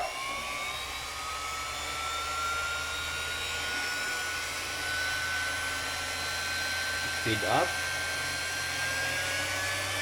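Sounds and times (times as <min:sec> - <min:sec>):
orbital sander whining: 0:00.0 - 0:10.0.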